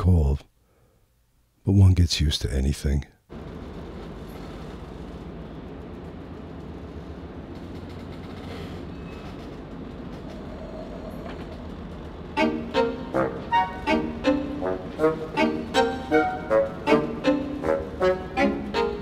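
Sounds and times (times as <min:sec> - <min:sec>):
ship engines rumbling: 0:03.5 - 0:19.0.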